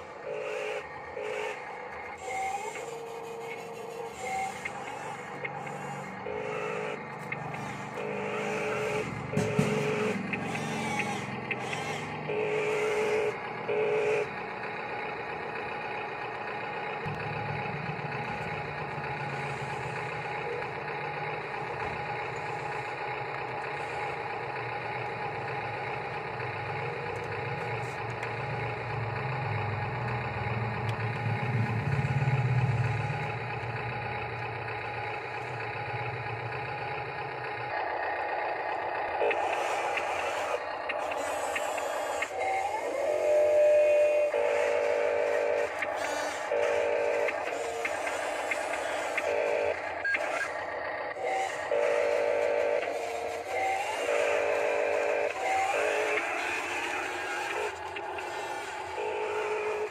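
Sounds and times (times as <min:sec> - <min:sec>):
whir of small electric motors: 0:00.0 - 0:59.9.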